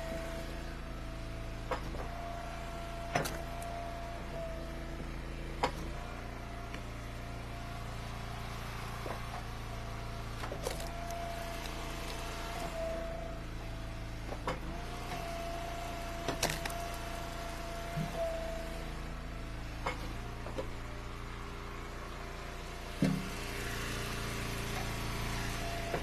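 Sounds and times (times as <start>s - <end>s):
wood splitter motor hum: 0.0s - 26.0s.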